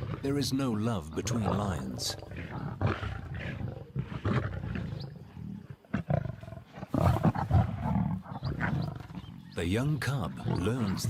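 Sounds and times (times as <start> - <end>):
lions snarling and growling: 0.0 - 11.0.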